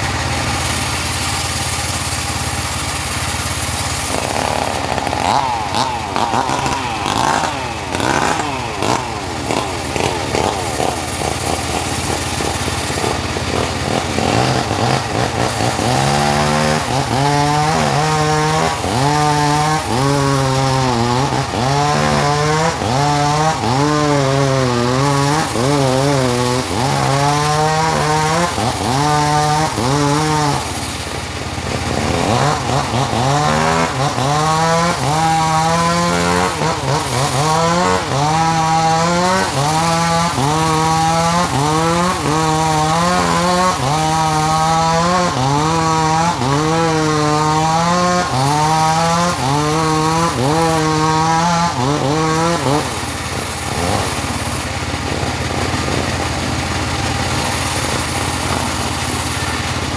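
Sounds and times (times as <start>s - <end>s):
engine-driven sawmill cutting wood: 0.0s - 59.9s.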